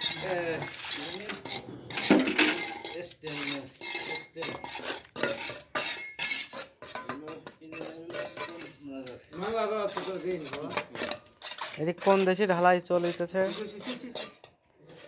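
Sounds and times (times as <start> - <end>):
metal tools clanking in wet concrete: 0.0 - 15.0.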